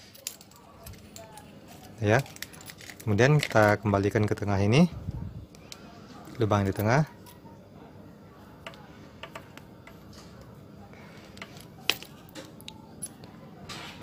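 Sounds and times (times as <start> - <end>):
faint background noise: 0.0 - 14.0.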